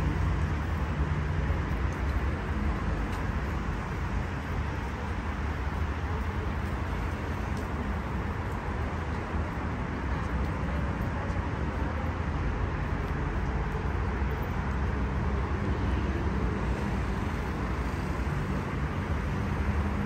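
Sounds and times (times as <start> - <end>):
highway traffic rumble: 0.0 - 20.0.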